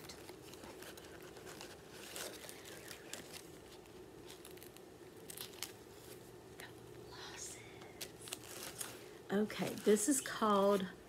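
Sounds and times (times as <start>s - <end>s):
gift bag crinkling and rustling: 0.0s - 6.4s, 8.0s - 10.9s.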